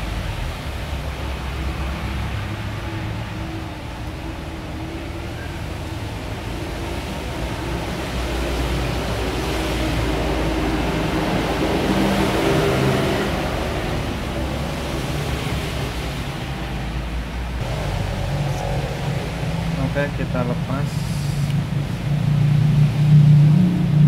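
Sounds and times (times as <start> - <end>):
low fan hum: 0.0 - 24.0.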